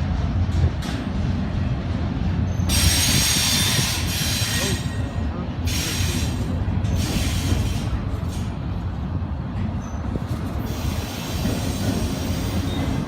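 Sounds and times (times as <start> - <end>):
freight train rumbling: 0.0 - 13.0
hissing wheel noise on rails: 0.0 - 13.0.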